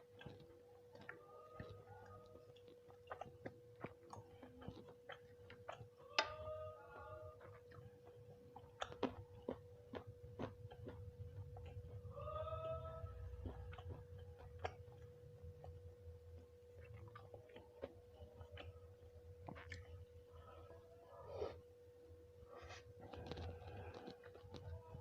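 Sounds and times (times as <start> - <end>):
person chewing: 0.0 - 21.7, 22.4 - 25.0
faint steady hum: 0.0 - 25.0.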